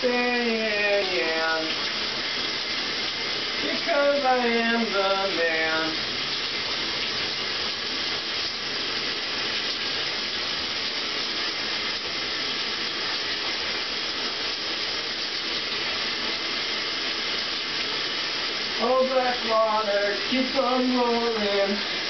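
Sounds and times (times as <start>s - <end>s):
shower water spray hissing: 0.0s - 22.0s.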